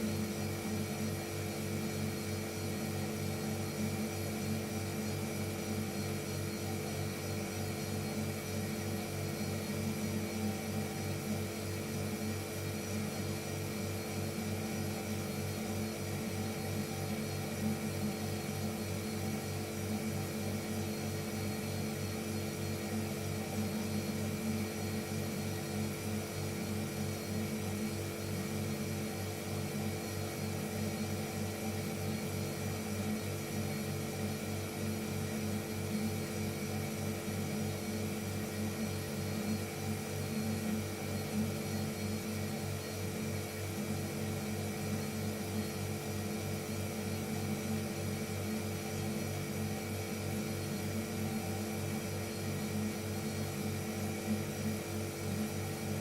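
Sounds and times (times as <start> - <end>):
refrigerator humming: 0.0 - 56.0.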